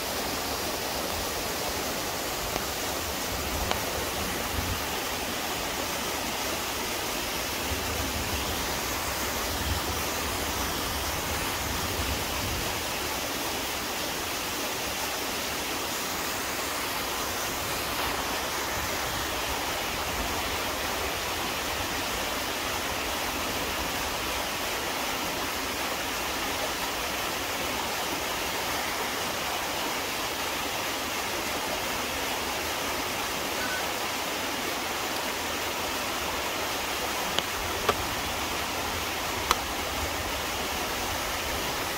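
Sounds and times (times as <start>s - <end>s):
waterfall rushing over rock: 0.0s - 41.9s.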